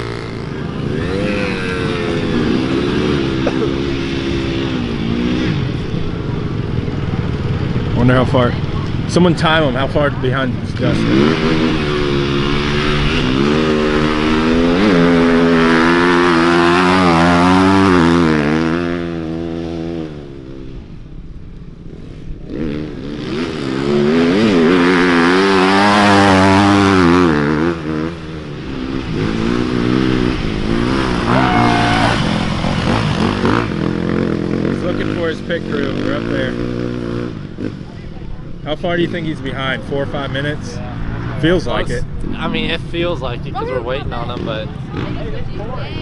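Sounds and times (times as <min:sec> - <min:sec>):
dirt bike engines revving past: 0:00.0 - 0:46.0.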